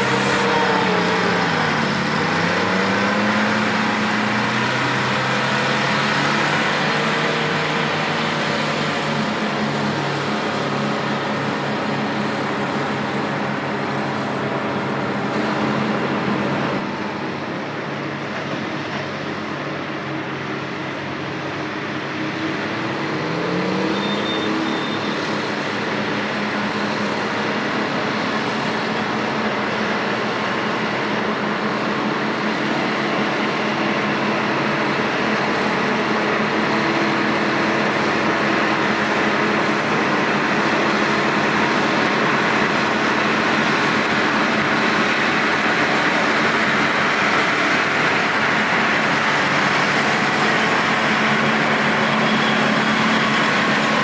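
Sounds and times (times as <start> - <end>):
engine revving up: 0.0 - 17.0, 22.0 - 54.0
heavy diesel engines droning: 0.0 - 54.0.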